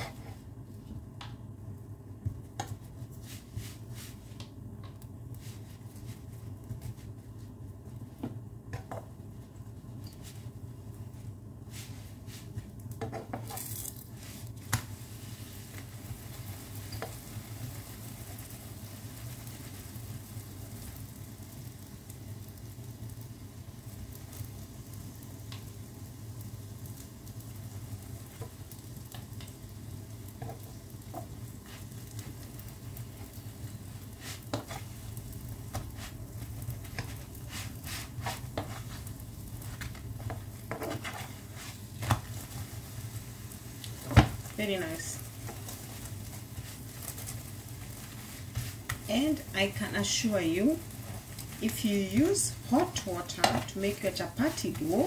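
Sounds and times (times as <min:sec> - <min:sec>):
flatbread sizzling on pan: 0:02.2 - 0:55.0.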